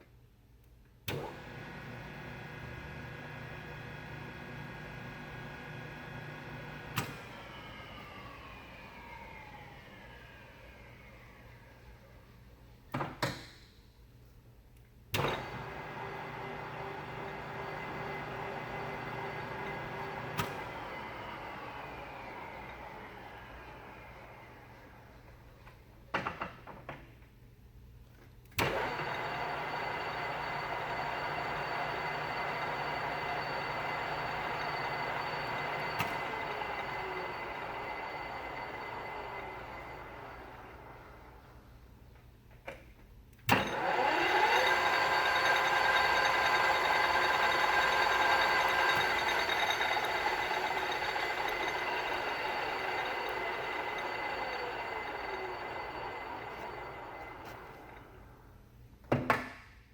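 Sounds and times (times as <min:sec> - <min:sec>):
lathe motor hum: 0:01.2 - 0:12.0, 0:15.4 - 0:25.2, 0:28.7 - 0:41.6, 0:43.5 - 0:58.5
lathe drive high whine: 0:01.3 - 0:12.1, 0:15.4 - 0:25.2, 0:28.6 - 0:41.6, 0:43.5 - 0:58.6.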